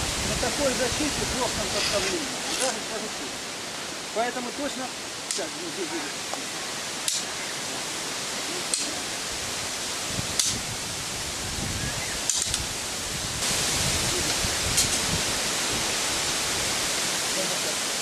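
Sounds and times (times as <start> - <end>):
outdoor hiss and rumble: 0.0 - 18.0.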